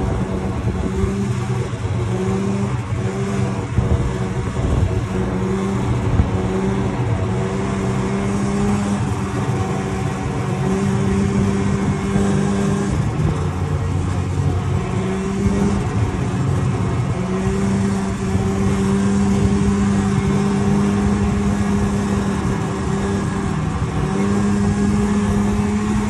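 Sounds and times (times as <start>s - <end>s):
rushing wind and snow: 0.0s - 26.0s
snowmobile engine running: 0.0s - 26.0s.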